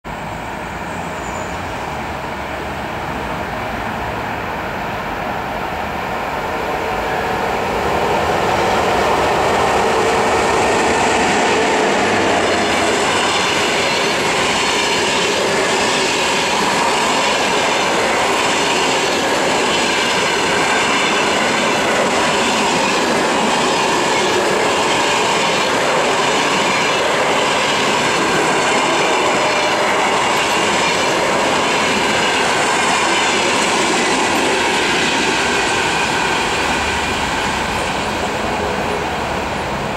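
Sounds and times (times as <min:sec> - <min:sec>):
train wheels rolling on rails: 0:00.1 - 0:39.9.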